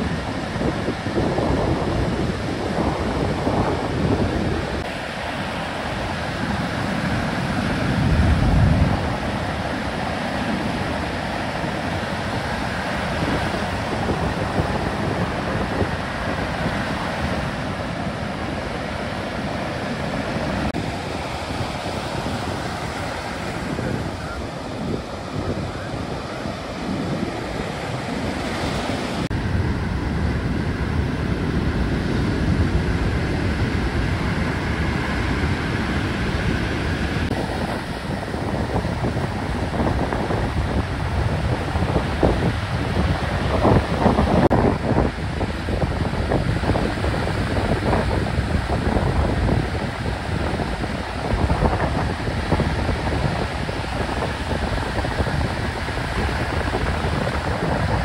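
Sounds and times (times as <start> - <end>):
ocean surf breaking: 0.0 - 58.0
wind on microphone: 0.0 - 58.0.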